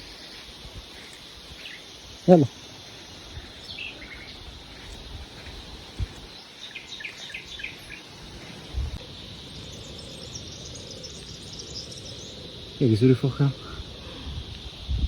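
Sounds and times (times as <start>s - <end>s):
faint high insect hum: 0.0s - 15.0s
small birds chirping: 0.0s - 15.0s.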